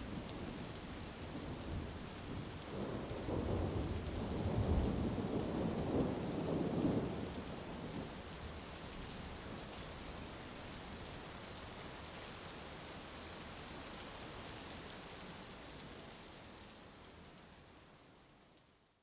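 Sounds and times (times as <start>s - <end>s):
heavy rain: 0.0s - 18.7s.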